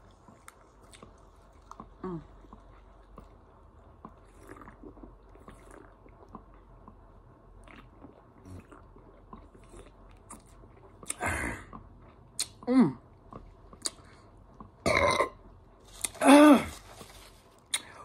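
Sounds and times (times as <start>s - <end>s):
person gulping soda: 0.0s - 18.0s.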